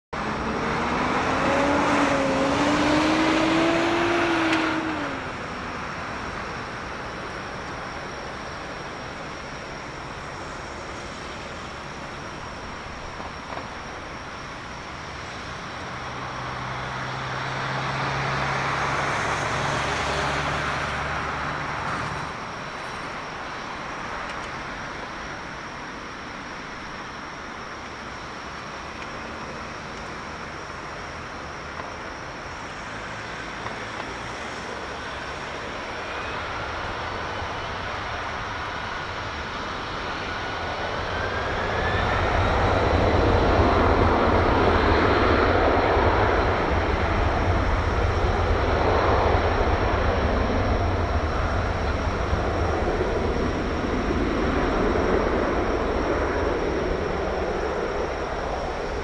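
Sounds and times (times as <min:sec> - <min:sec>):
passing jet sound: 0:00.2 - 0:25.4, 0:32.4 - 0:59.0
jet engines idling: 0:00.2 - 0:59.0.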